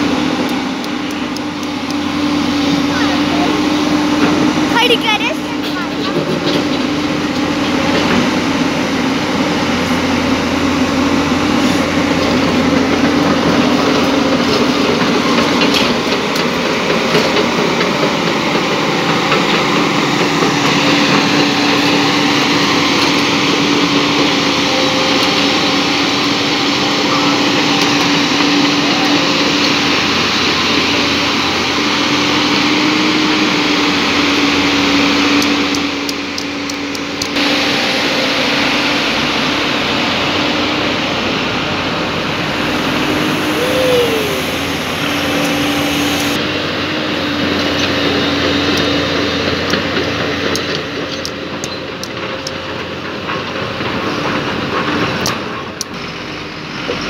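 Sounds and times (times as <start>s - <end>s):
excavator diesel engine running: 0.0s - 57.0s
steel tracks clattering: 0.0s - 57.0s.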